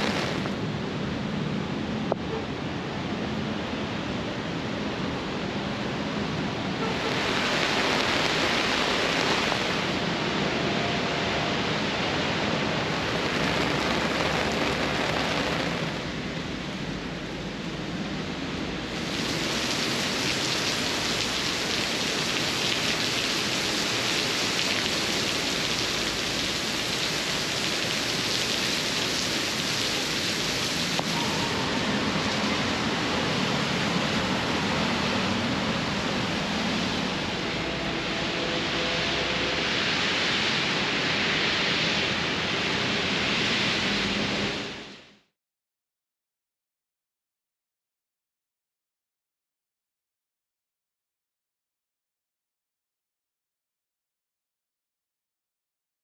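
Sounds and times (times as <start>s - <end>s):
heavy rain pouring: 0.0s - 45.2s.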